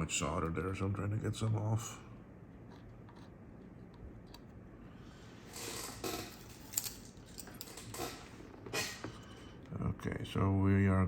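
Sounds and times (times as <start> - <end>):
air-conditioning unit humming: 0.0 - 11.0.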